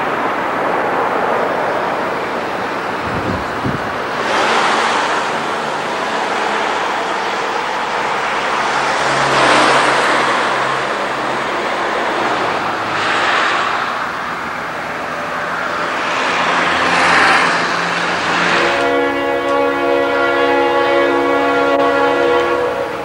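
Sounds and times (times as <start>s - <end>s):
low diesel engine tones: 0.0s - 23.0s
train rumbling past: 0.0s - 23.0s.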